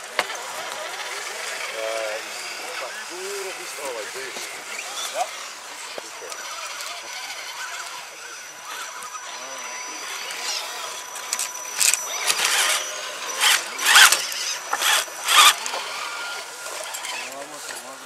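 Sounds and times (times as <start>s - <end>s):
small electric motor whirring: 0.0s - 18.0s.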